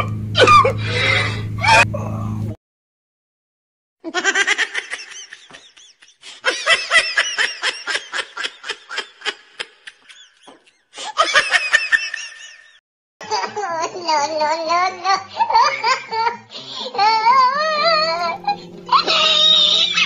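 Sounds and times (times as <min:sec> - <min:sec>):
high-pitched laughter: 0:00.4 - 0:01.9, 0:04.1 - 0:20.0.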